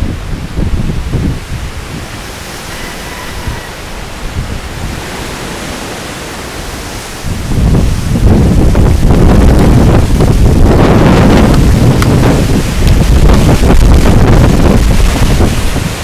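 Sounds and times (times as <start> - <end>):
storm wind rushing: 0.0 - 16.0
wind buffeting microphone: 0.0 - 16.0.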